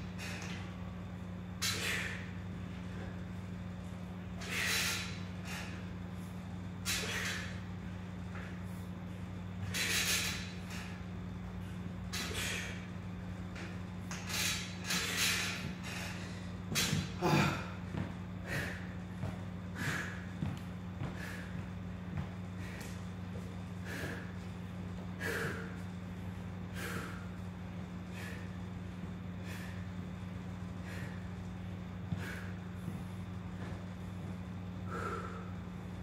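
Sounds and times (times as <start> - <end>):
steady low hum: 0.0 - 36.0
man breathing hard: 1.6 - 9.0, 12.1 - 13.2, 14.2 - 36.0.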